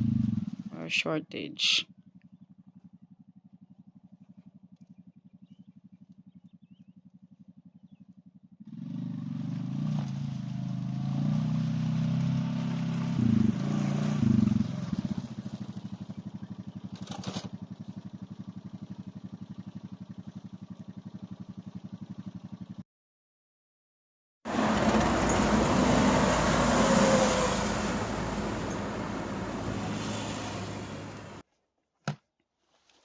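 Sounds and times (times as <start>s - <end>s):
small vehicle engine running: 2.3s - 22.8s, 24.5s - 31.4s.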